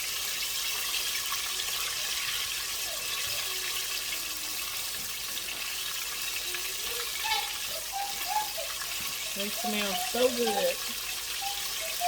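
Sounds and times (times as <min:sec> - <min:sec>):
chicken wings deep-frying in oil: 0:00.0 - 0:12.0.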